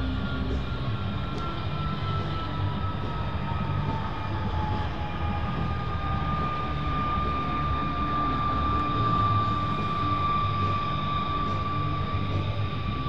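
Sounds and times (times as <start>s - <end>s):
jet engine whining: 0.0s - 13.0s.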